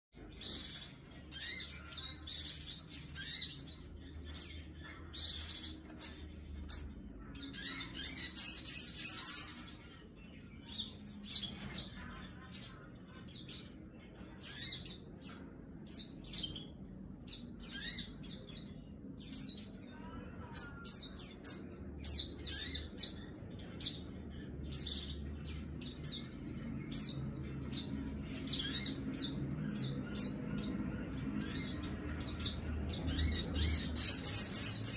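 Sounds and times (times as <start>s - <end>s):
bird chirps and trills: 0.2s - 34.9s.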